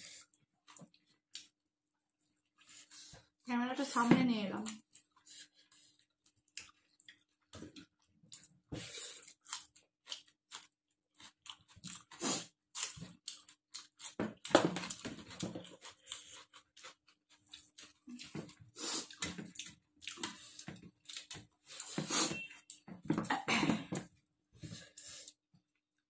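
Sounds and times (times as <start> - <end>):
chewing and crunching: 0.0 - 3.5, 4.6 - 22.9.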